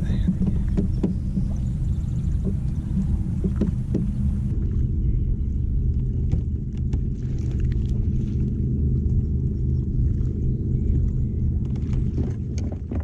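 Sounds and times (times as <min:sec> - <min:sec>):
water and wind rumble: 0:00.0 - 0:13.0.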